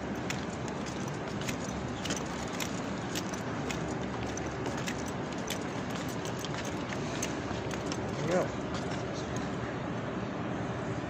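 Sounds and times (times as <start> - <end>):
small jingles: 0.0 - 9.6
outdoor background noise: 0.0 - 11.0.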